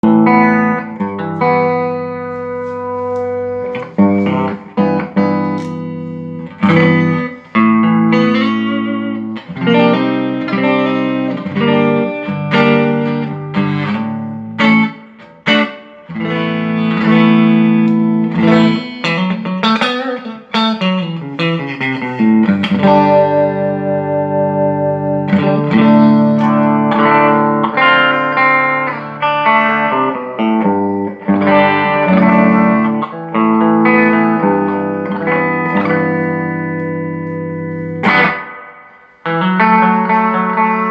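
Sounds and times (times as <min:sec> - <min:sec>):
electric guitar: 0:00.0 - 0:40.9.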